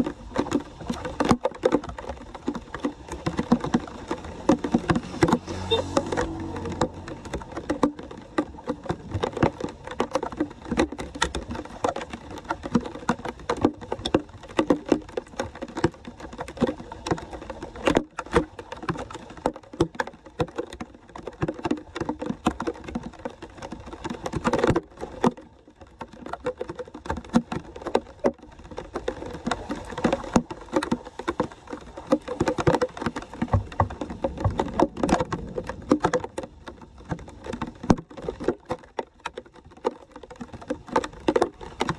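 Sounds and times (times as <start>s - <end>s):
rain pattering on water: 0.0s - 41.9s
water splashing in gutter: 0.0s - 41.9s.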